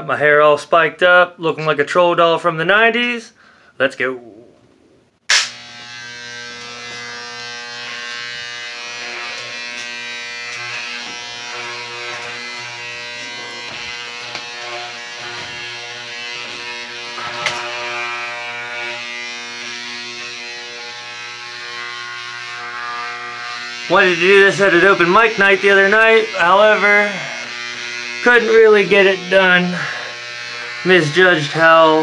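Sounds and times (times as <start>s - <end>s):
electric hair clippers buzzing: 5.3s - 32.0s.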